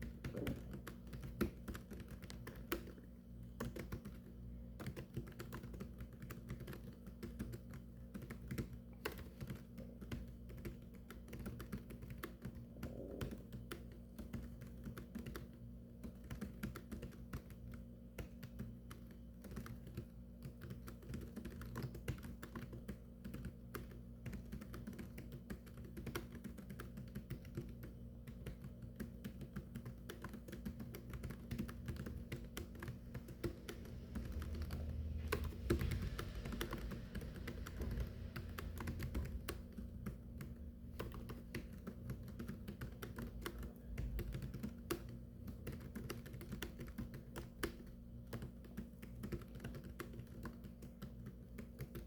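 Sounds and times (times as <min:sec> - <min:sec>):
typing on a keyboard: 0:00.0 - 0:52.0.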